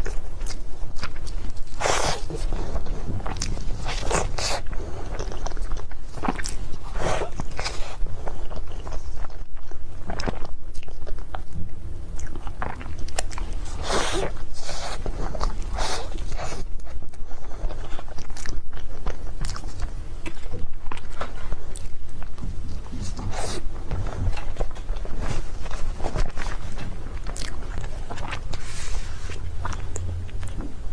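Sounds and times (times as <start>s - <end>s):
low hum: 0.0s - 30.9s
person biting and chewing cake: 0.0s - 30.9s.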